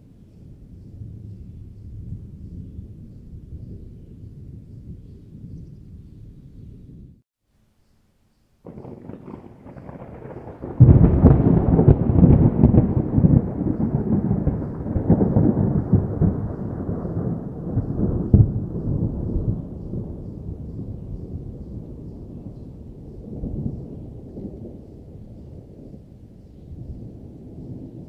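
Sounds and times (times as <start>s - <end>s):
distant thunder rumbling: 0.0s - 7.2s, 8.6s - 28.0s.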